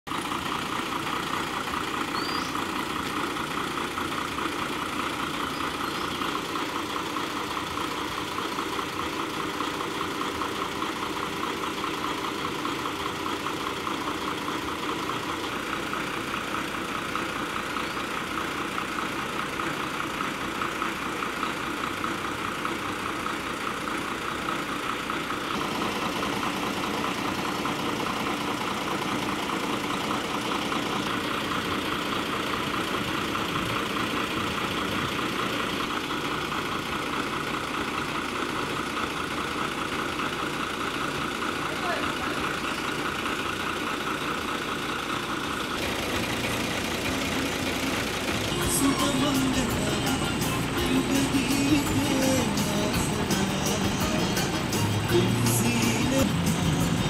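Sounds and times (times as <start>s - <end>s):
diesel bus engine idling: 0.0s - 57.0s.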